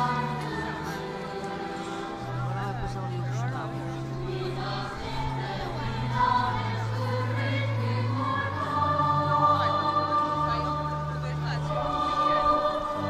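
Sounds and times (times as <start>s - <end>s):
choir singing a hymn: 0.0s - 2.8s, 4.0s - 13.0s.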